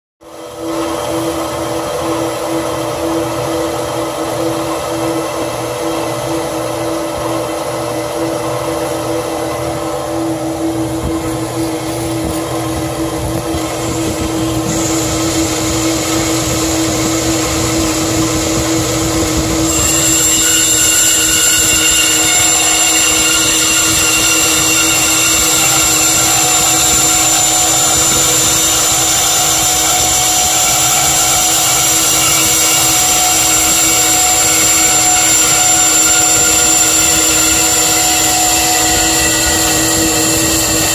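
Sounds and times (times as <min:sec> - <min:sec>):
band saw cutting metal tube: 0:00.2 - 0:40.9
high whine: 0:00.2 - 0:40.9.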